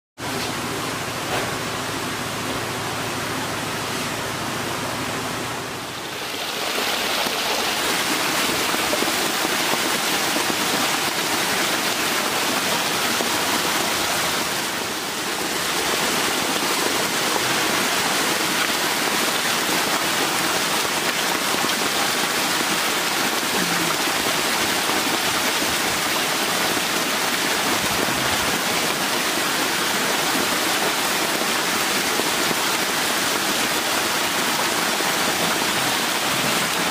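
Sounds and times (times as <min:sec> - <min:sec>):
water rushing and splashing: 0:05.7 - 0:36.9.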